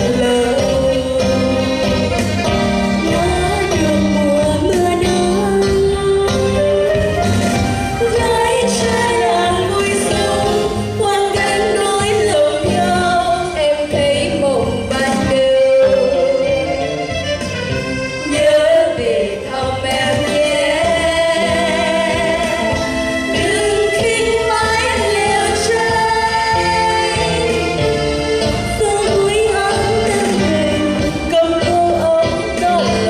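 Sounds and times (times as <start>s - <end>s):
person singing with vibrato: 0.0s - 17.2s, 18.2s - 33.0s
instrumental accompaniment: 0.0s - 33.0s.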